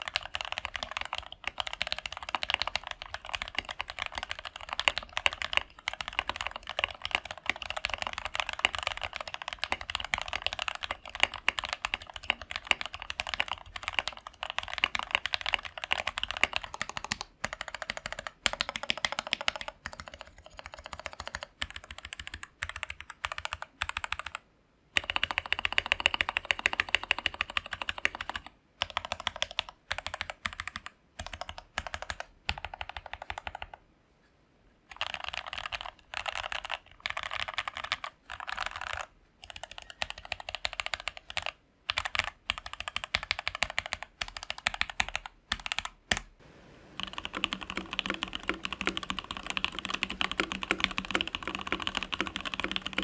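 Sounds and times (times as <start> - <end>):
fast typing on mechanical keyboard: 0.0 - 24.4, 25.0 - 33.8, 34.9 - 46.3, 47.0 - 53.0.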